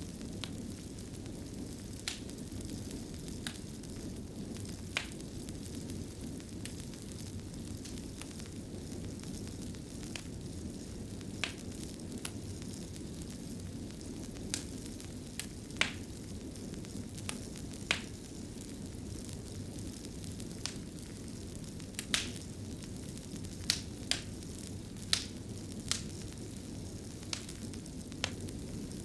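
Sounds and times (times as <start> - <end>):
fire crackles and pops: 0.0 - 29.0
fire rumbling: 0.0 - 29.0.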